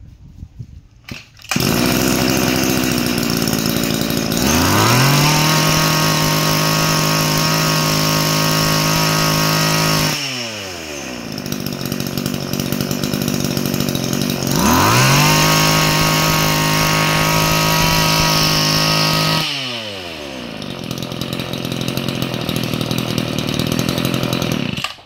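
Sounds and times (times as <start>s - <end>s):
brush-cutter engine revving and idling: 1.1s - 25.0s.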